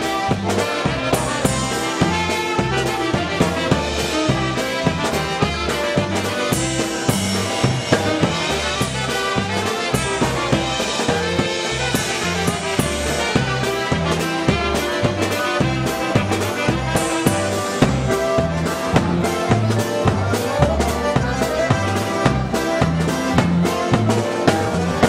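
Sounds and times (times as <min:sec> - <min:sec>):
electric bass: 0:00.0 - 0:25.0
polka band playing: 0:00.0 - 0:25.0.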